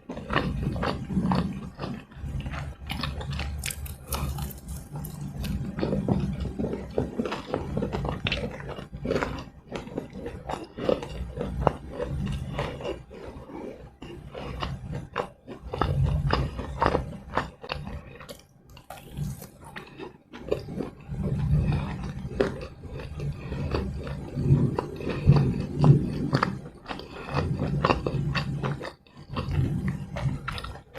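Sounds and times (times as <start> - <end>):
biting and chewing fried snacks: 0.0 - 30.9.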